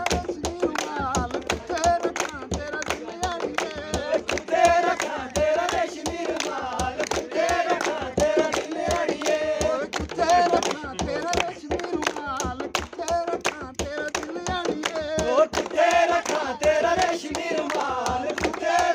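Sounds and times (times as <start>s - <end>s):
men singing a folk song: 0.0s - 18.9s.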